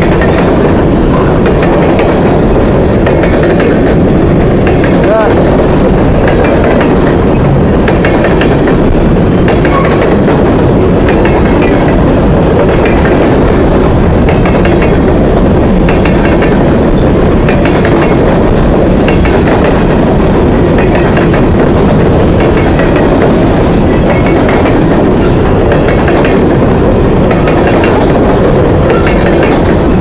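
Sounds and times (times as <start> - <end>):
train rumble: 0.0 - 30.0
wheels clacking over rail joints: 0.0 - 30.0.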